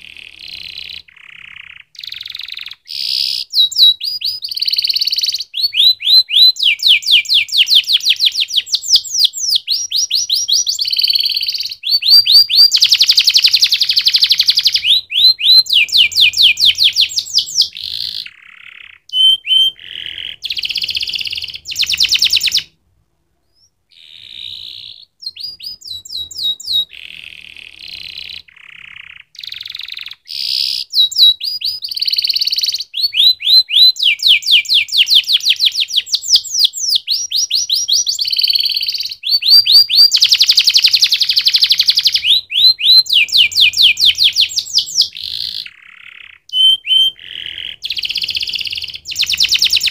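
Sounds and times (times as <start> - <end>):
canary singing trills: 0.0 - 22.8, 23.4 - 49.9.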